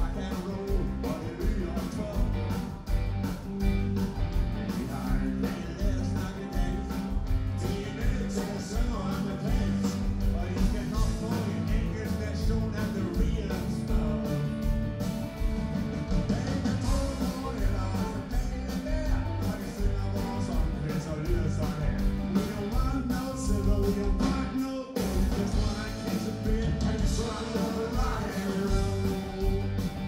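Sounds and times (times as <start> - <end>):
blues rock band playing: 0.0 - 30.0
wavering lead guitar line: 0.0 - 30.0.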